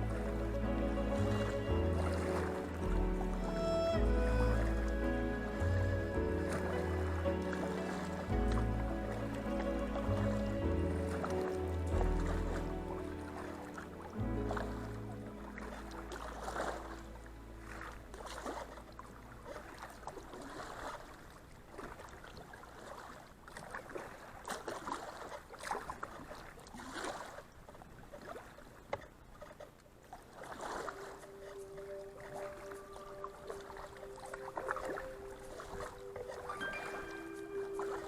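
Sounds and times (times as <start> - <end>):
kayak paddle splashing: 0.0 - 38.0
water rushing past hull: 0.0 - 38.0.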